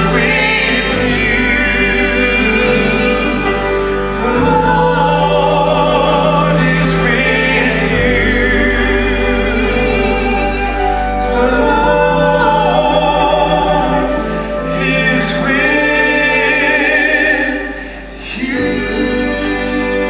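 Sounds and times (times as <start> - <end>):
orchestral accompaniment: 0.0 - 20.0
singers with vibrato: 0.0 - 20.0.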